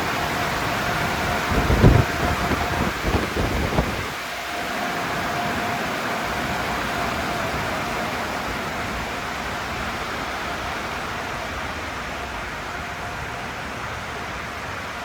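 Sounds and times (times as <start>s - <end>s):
car wash rushing noise: 0.0s - 15.0s.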